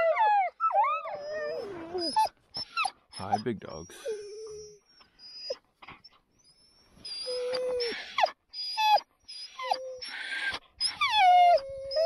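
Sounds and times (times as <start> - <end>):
dogs whining and yelping: 0.0 - 12.0.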